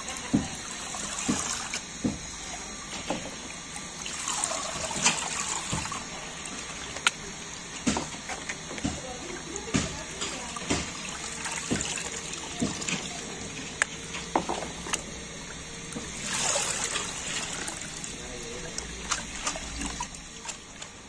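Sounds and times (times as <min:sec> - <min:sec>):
liquid dripping and trickling: 0:00.0 - 0:21.0.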